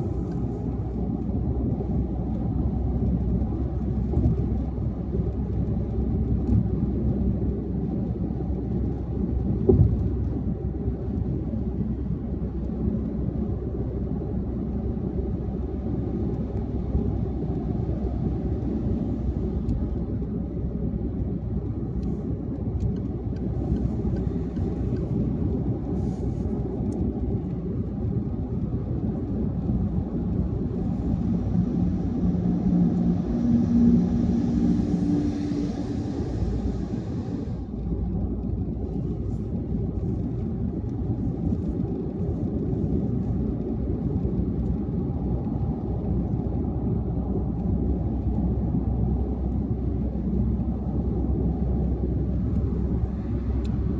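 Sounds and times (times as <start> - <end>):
tyre and engine rumble: 0.0 - 53.9.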